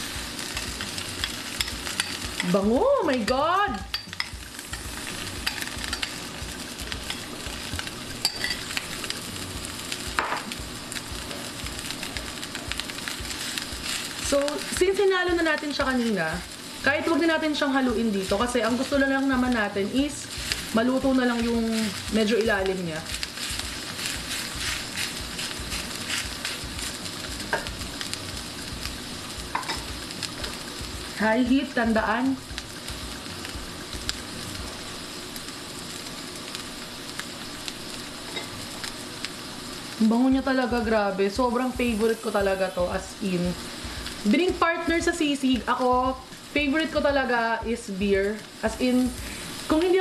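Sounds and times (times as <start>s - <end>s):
meat sizzling on hot plate: 0.0s - 50.0s.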